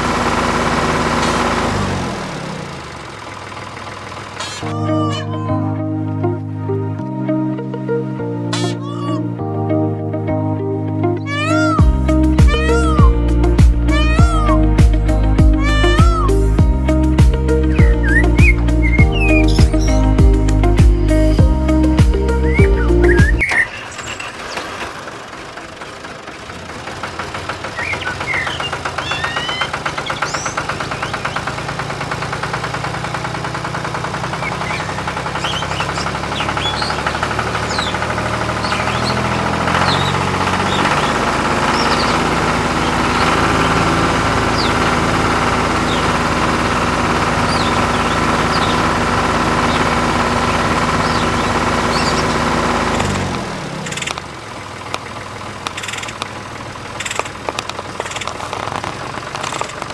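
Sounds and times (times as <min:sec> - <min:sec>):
motor running: 0:00.0 - 0:06.5, 0:11.2 - 0:59.9.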